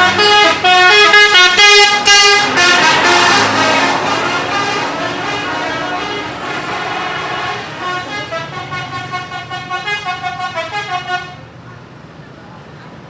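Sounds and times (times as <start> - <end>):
musical bus horn melody: 0.0 - 11.4.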